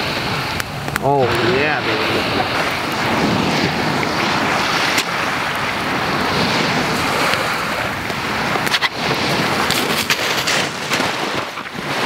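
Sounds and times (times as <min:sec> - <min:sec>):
lake surf on cobble shore: 0:00.0 - 0:12.0
wind buffeting microphone: 0:00.0 - 0:12.0.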